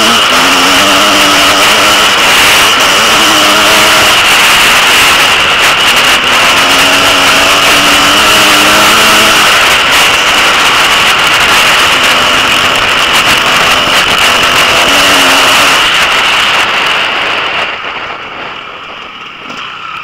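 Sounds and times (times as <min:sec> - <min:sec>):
dirt bike engine running hard: 0:00.0 - 0:20.0
wind rush on microphone: 0:00.0 - 0:20.0.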